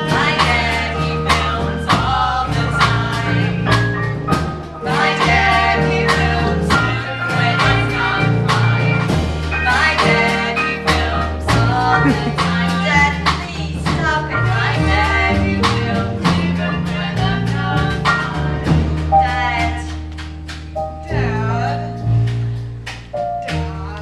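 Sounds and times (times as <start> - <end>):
live band music: 0.0 - 24.0.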